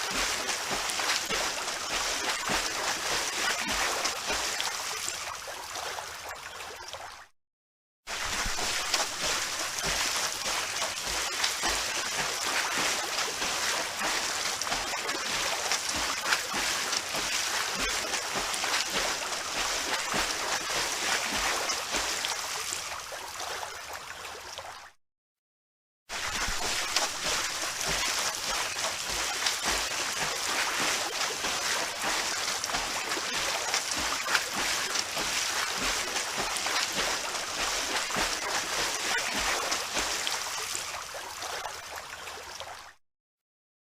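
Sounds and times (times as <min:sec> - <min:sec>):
water splashing and sloshing: 0:00.0 - 0:07.4, 0:08.1 - 0:25.0, 0:26.1 - 0:43.0.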